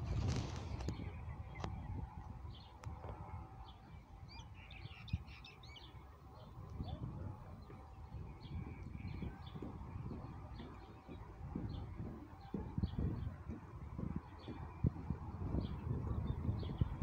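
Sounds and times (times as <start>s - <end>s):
birds chirping: 0.0s - 17.0s
low outdoor rumble: 0.0s - 17.0s.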